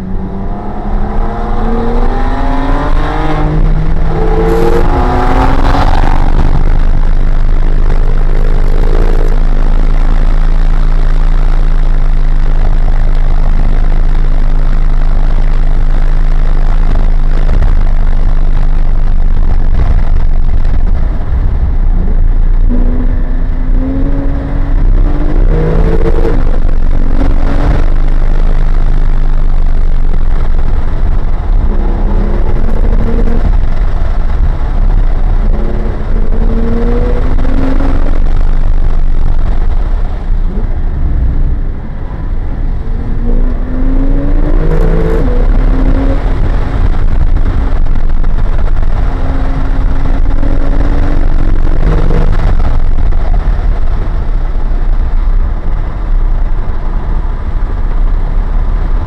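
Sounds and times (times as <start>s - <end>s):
car engine revving through gears: 0.0s - 59.0s
road and wind noise: 0.0s - 59.0s.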